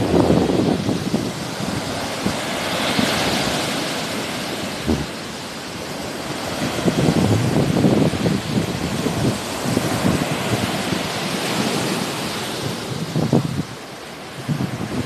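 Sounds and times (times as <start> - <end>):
sea waves breaking: 0.0 - 15.0
wind on microphone: 0.0 - 15.0.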